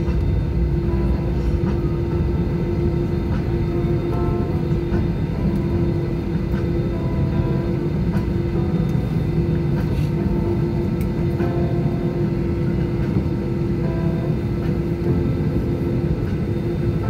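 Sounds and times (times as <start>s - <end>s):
aircraft cabin hum: 0.0s - 17.0s
low engine rumble: 0.0s - 17.0s.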